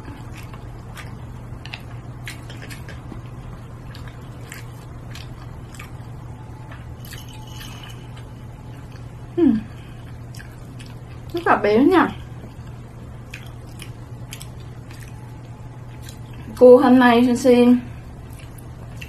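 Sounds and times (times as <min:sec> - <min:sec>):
chewing with wet mouth clicks: 0:00.0 - 0:09.2, 0:10.0 - 0:11.5, 0:12.4 - 0:16.5, 0:18.2 - 0:19.0
steady low hum: 0:00.0 - 0:19.0.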